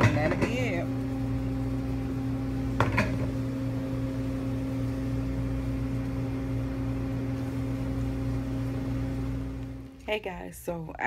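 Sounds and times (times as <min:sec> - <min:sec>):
kitchen machine hum: 0:00.0 - 0:11.0.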